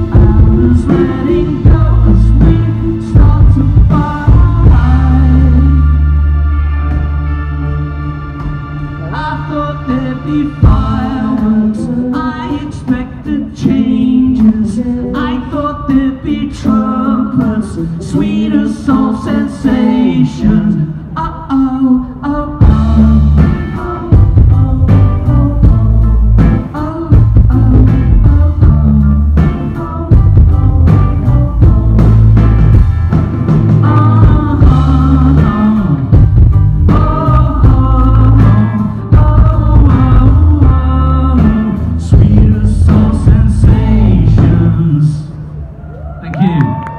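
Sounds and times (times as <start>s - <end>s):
pop rock band playing: 0.0s - 45.6s.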